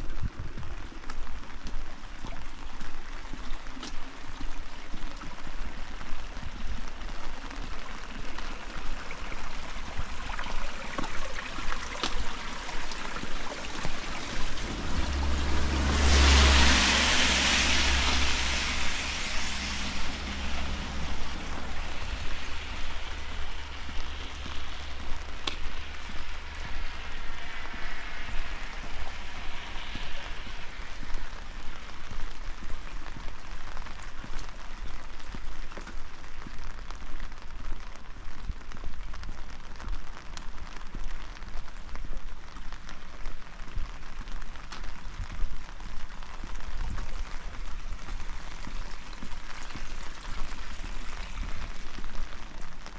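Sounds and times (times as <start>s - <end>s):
rain pattering: 0.0s - 52.9s
vehicle passing on wet road: 2.5s - 36.5s, 40.8s - 52.9s.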